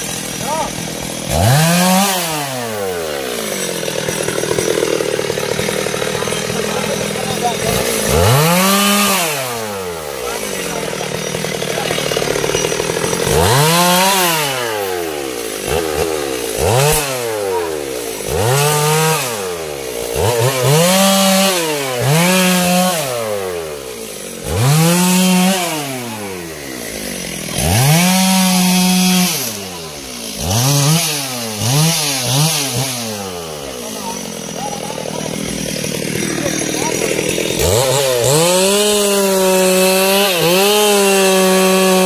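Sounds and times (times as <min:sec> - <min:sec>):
chainsaw revving: 0:00.0 - 0:42.0.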